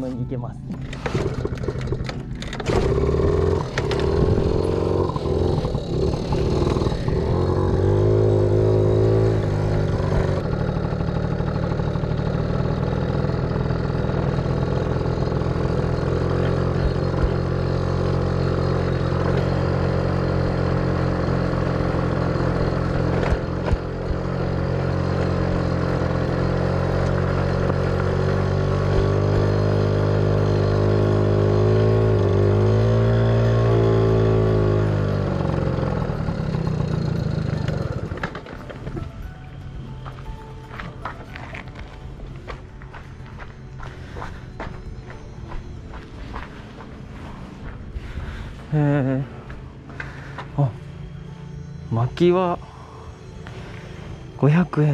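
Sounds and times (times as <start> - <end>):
small two-stroke engine riding: 0.0 - 54.9.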